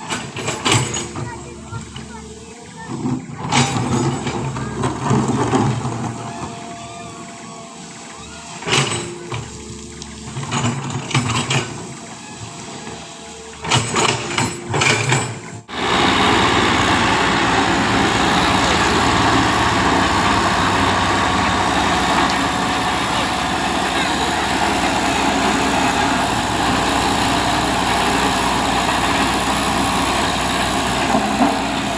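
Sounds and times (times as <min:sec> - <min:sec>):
heavy truck engine: 0:00.0 - 0:31.9.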